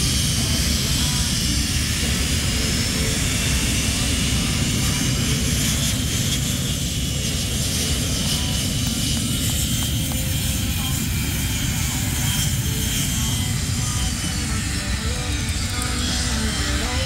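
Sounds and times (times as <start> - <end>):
airplane engine running: 0.0 - 17.0
faint high whine: 0.0 - 17.0.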